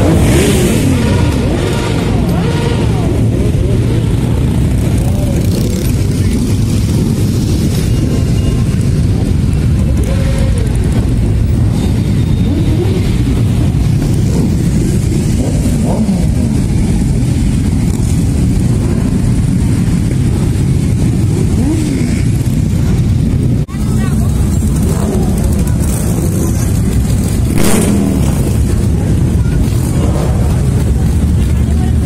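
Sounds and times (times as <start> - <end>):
motorcycle revving: 0.0 - 32.0.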